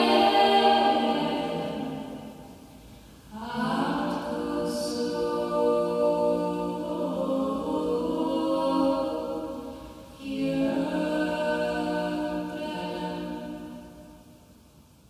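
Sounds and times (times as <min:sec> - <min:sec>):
women singing a cappella in harmony: 0:00.0 - 0:14.6.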